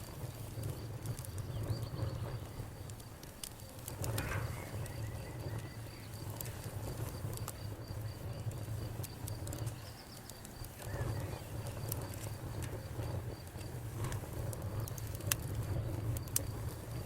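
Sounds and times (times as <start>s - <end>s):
low fire rumble: 0.0s - 17.0s
wood crackling and popping: 0.0s - 17.0s.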